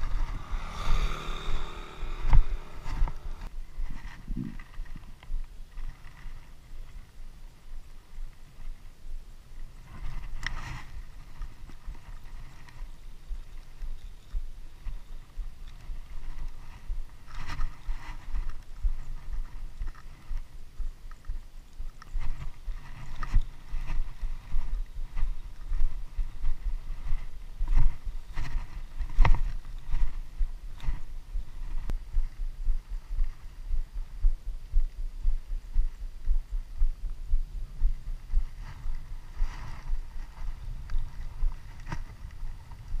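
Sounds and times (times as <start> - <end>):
wind rumble on microphone: 0.0 - 43.0.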